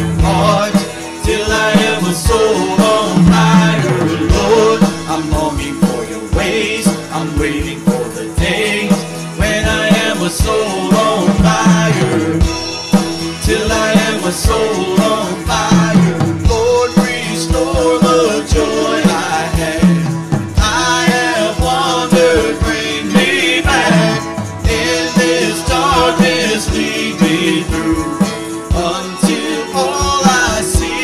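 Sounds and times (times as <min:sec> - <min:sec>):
person singing: 0:00.0 - 0:12.6, 0:13.3 - 0:31.0
steady drum beat: 0:00.0 - 0:31.0
worship band music: 0:00.0 - 0:31.0.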